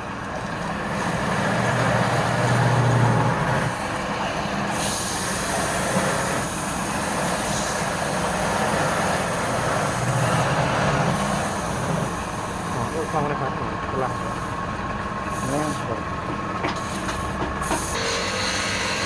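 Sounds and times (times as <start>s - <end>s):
wood lathe motor hum: 0.1s - 16.1s, 17.7s - 19.0s
wide hiss of lathe: 0.8s - 16.0s, 16.7s - 19.0s.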